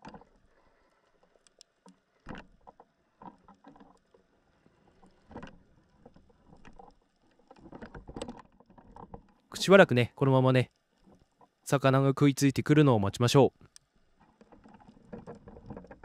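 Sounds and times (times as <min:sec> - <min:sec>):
faint underwater clicks: 0:00.0 - 0:11.7, 0:13.5 - 0:16.0.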